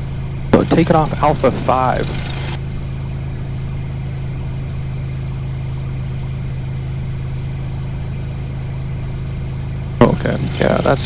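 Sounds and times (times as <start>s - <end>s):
airplane piston engine droning: 0.4s - 11.0s.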